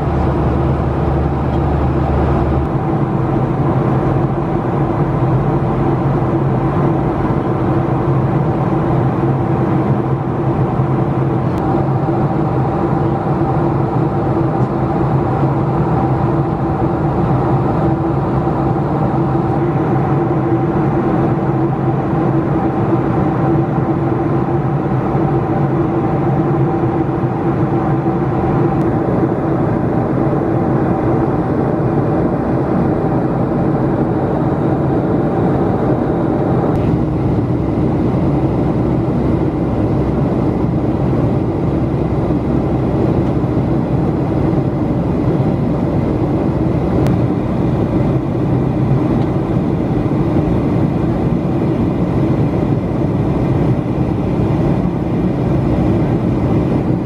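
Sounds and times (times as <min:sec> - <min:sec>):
airliner cabin drone: 0:00.0 - 0:57.0.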